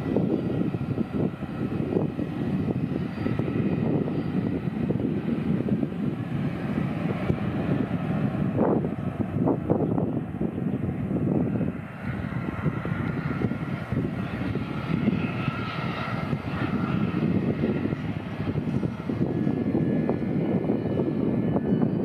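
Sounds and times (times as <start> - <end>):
high jet engine whine: 0.0 - 22.0
jet engines rumbling at takeoff: 0.0 - 22.0.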